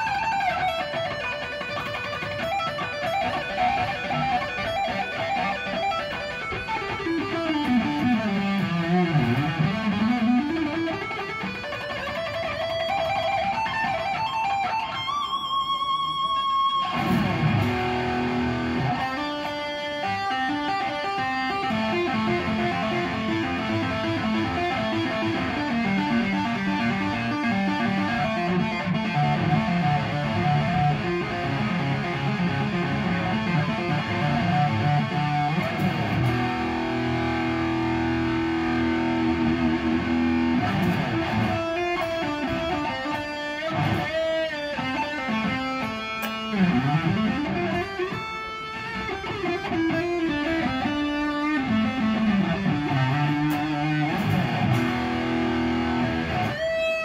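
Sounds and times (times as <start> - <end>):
electric guitar playing: 0.0 - 57.0.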